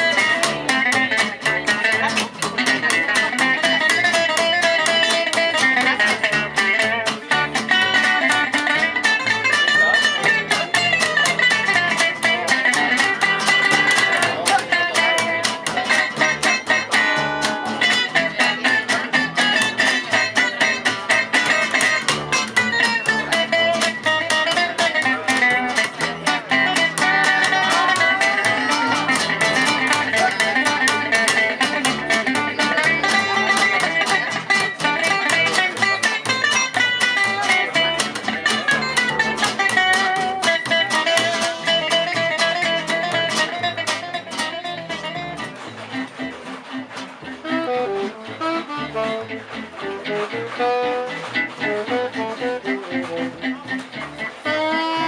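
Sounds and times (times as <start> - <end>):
strummed guitar rhythm: 0.0 - 55.0.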